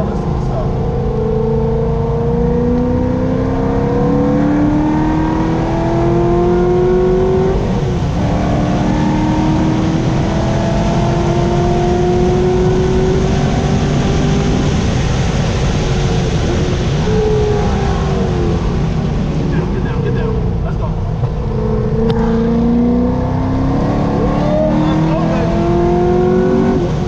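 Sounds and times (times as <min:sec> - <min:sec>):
car engine accelerating hard: 0:00.0 - 0:27.0
road and wind noise: 0:00.0 - 0:27.0.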